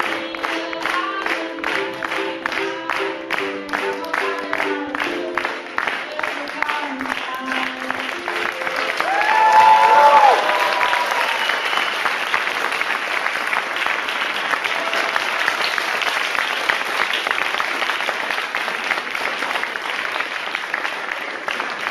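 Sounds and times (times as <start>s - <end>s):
audience clapping: 0.0s - 21.9s.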